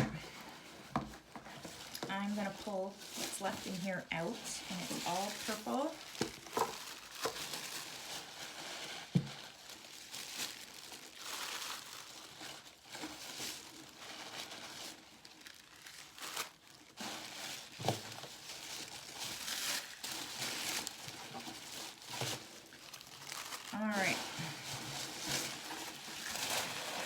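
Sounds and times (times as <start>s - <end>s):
paper packaging crinkling: 0.0s - 27.0s.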